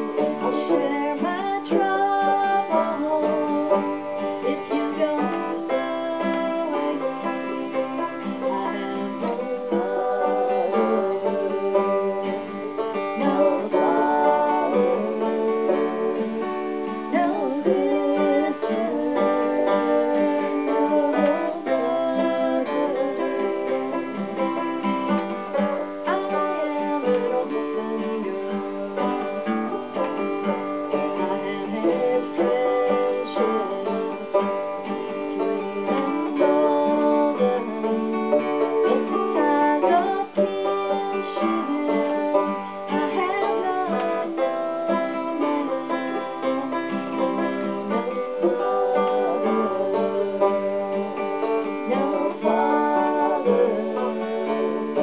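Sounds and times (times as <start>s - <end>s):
acoustic guitar: 0.0s - 55.0s
banjo: 0.0s - 55.0s.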